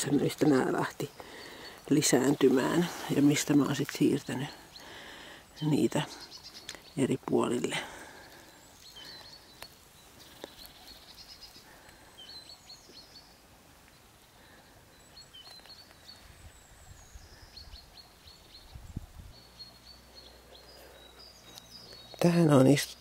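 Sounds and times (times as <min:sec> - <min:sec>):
faint songbirds chirping: 0:00.0 - 0:23.0.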